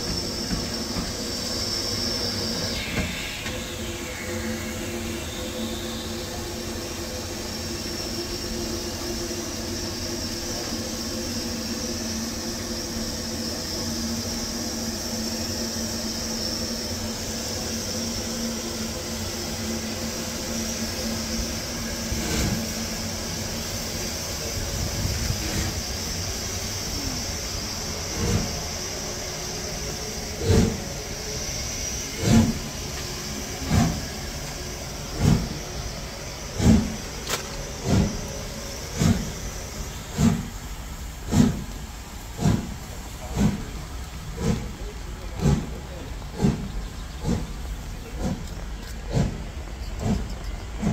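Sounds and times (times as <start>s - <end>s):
steam hissing: 0.0s - 50.9s
steam locomotive exhaust beats: 0.0s - 50.9s.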